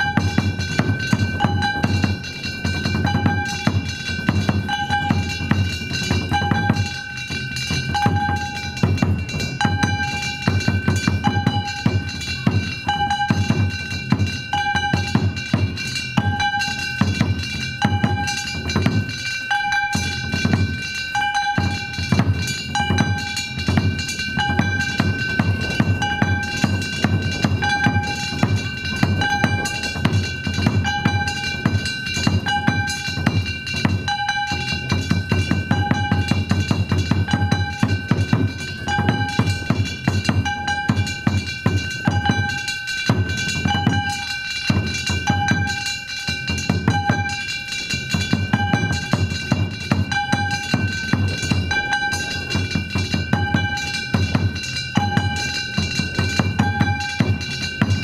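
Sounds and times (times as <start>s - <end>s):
metallic ringing: 0.0s - 58.0s
rapid taiko drumming: 0.0s - 58.0s.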